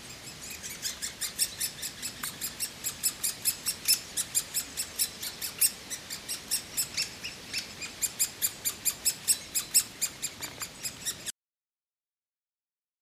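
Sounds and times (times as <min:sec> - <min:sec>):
woodpecker nestlings begging calls: 0:00.0 - 0:11.3.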